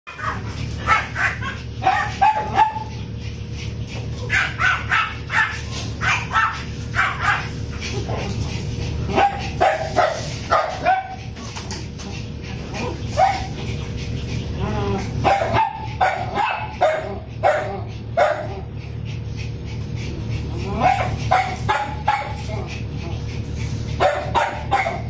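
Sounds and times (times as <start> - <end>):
dogs barking and yipping: 0.1 - 25.0.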